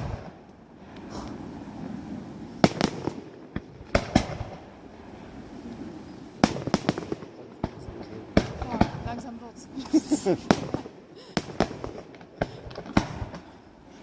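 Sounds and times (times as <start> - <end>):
fireworks bursting with bangs: 0.0 - 14.0.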